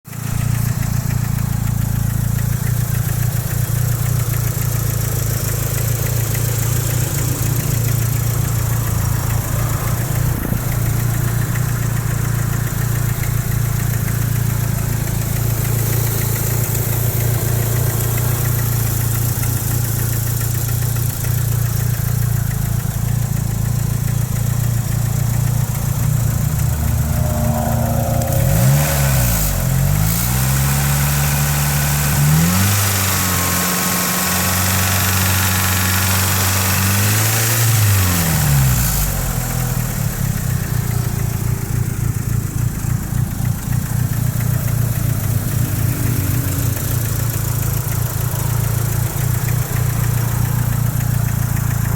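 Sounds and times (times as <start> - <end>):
car engine idling with knock: 0.1 - 51.9.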